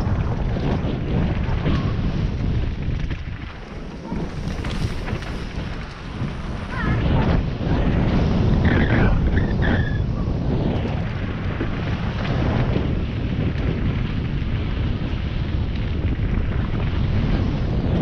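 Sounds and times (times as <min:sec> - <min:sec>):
bike tyres and frame rattling: 0:00.0 - 0:18.0
wind buffeting microphone: 0:00.0 - 0:18.0.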